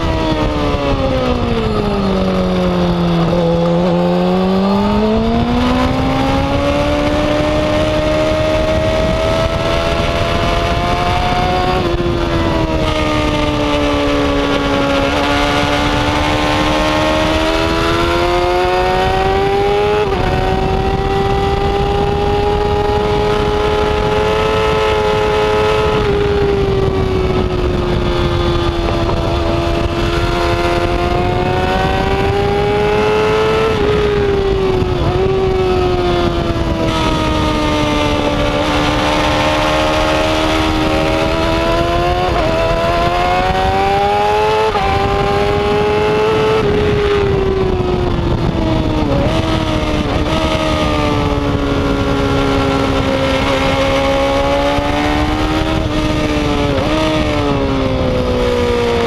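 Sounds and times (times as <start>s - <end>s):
motorcycle engine revving high: 0.0s - 59.0s
wind noise: 0.0s - 59.0s.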